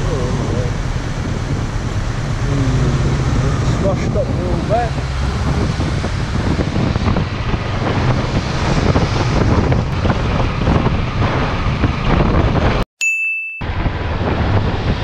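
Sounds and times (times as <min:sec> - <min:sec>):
motorcycle rumble: 0:00.0 - 0:12.8
wind buffeting microphone: 0:00.0 - 0:12.8, 0:13.6 - 0:15.0.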